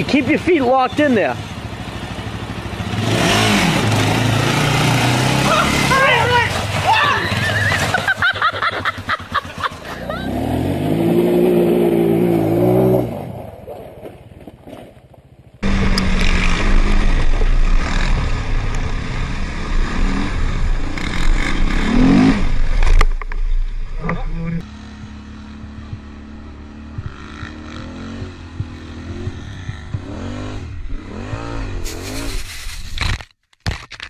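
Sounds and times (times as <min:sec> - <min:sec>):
quad bike engine revving: 0:00.0 - 0:13.4, 0:15.5 - 0:23.1, 0:24.0 - 0:32.4.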